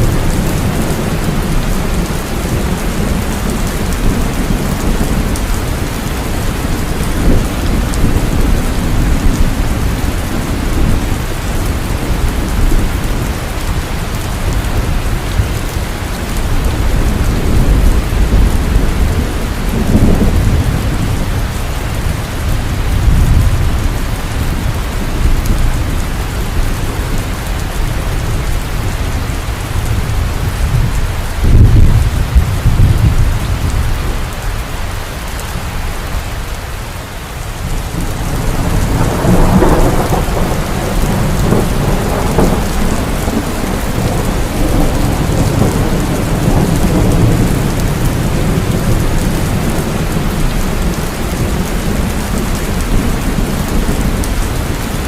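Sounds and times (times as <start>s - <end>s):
rolling thunder: 0.0s - 34.4s, 37.6s - 55.0s
heavy rain: 0.0s - 55.0s.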